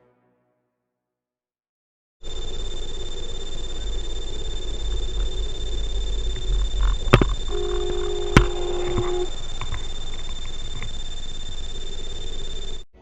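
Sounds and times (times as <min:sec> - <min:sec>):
car engine and road rumble: 0:02.2 - 0:12.9
faint high electrical whine: 0:02.2 - 0:12.9
steady pitched tone: 0:02.2 - 0:13.0
sharp clicks: 0:02.3 - 0:12.9.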